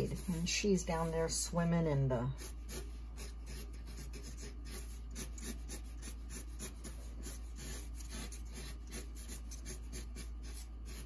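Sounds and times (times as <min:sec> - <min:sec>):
marker scratching on paper: 0:00.0 - 0:01.6, 0:02.3 - 0:11.0
low steady hum: 0:00.0 - 0:11.0.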